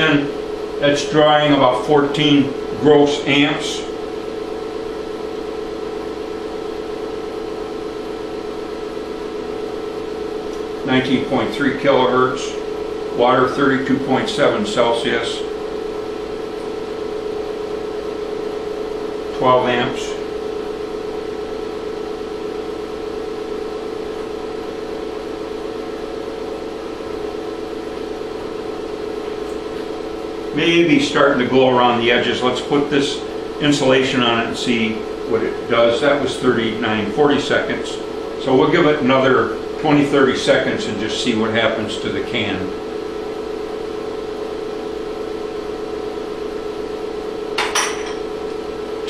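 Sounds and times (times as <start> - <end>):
induction heater electrical hum: 0.0 - 49.0.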